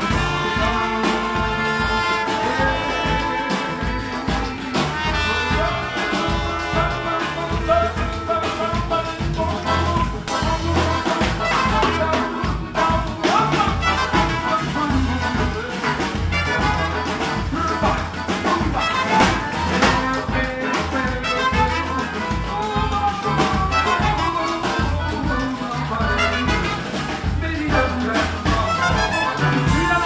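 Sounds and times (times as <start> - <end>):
double bass: 0.0 - 30.0
drum kit: 0.0 - 30.0
saxophone: 0.0 - 30.0
trumpet: 0.0 - 30.0.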